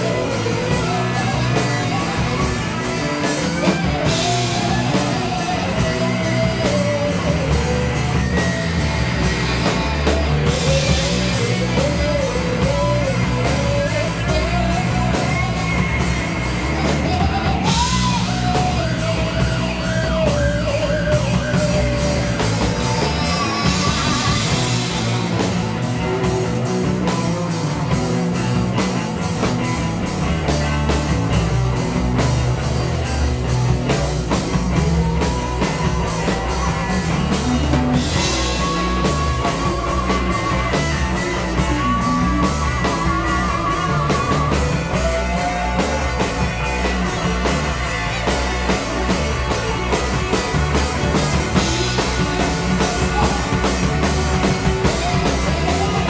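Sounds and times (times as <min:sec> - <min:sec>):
psychedelic rock band playing: 0:00.0 - 0:56.0.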